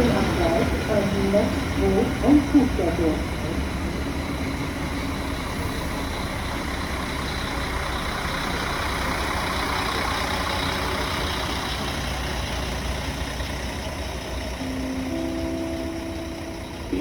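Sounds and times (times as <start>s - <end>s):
train engine droning: 0.0s - 17.0s.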